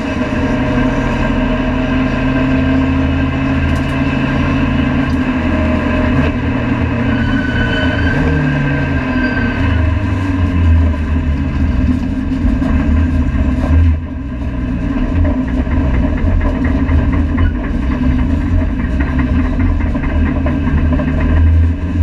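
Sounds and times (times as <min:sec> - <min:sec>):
car engine at low revs: 0:00.0 - 0:07.2, 0:09.6 - 0:22.0.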